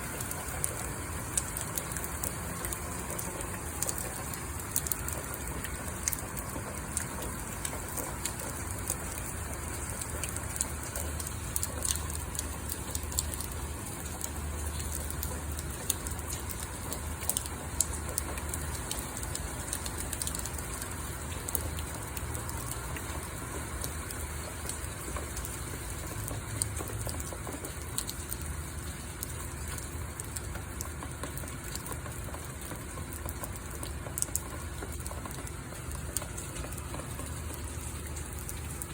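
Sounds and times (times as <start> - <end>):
rain drops ticking on hard surface: 0.0 - 38.9.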